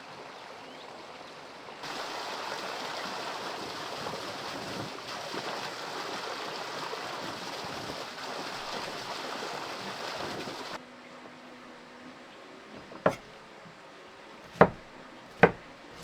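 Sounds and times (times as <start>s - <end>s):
running water rushing: 0.0s - 10.8s, 12.8s - 13.6s, 14.4s - 16.0s.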